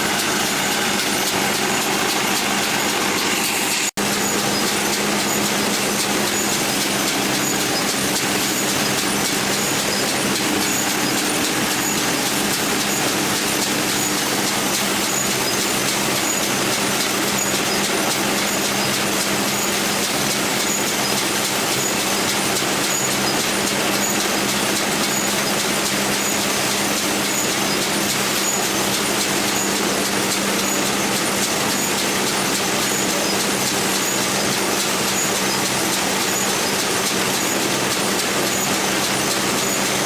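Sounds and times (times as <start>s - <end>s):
agricultural machine running: 0.0s - 40.0s.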